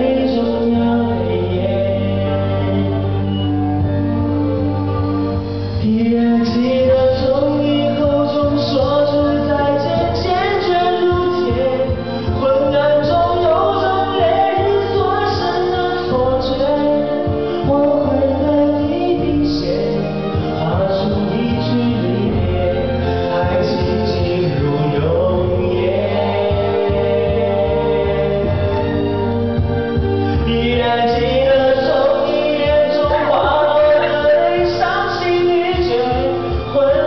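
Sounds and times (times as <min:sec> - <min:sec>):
man singing into microphone: 0:00.0 - 0:29.3, 0:30.0 - 0:37.0
karaoke backing track: 0:00.0 - 0:37.0.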